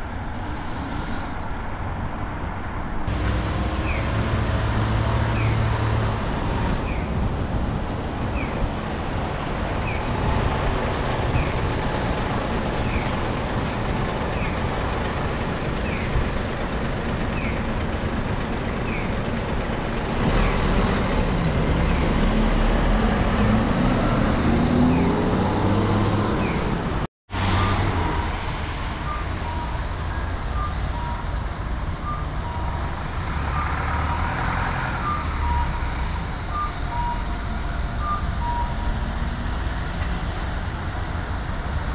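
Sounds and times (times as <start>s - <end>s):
bus engine pulling away: 0.0s - 41.9s
road traffic: 0.0s - 41.9s.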